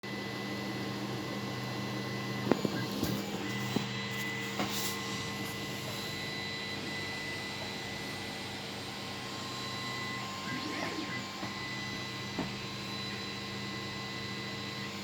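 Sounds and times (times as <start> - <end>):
vacuum cleaner motor running: 0.1 - 15.0.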